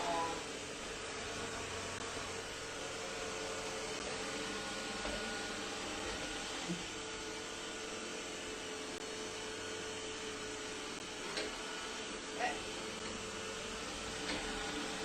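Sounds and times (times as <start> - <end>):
robot vacuum whirring hum: 0.0 - 15.0.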